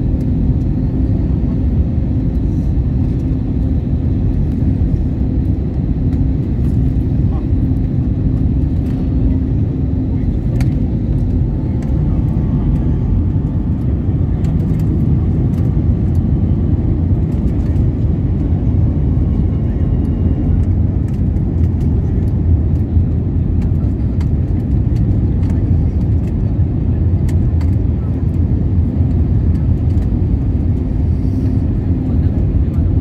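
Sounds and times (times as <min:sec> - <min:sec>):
airplane cabin engine rumble: 0:00.0 - 0:33.0.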